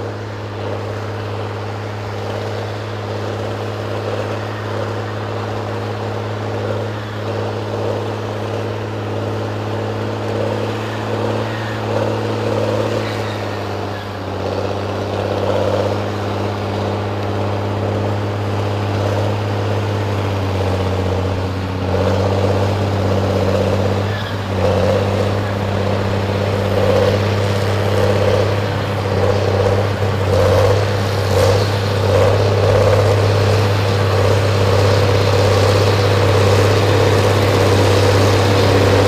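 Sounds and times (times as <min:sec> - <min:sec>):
heavy machine engine humming: 0:00.0 - 0:39.0.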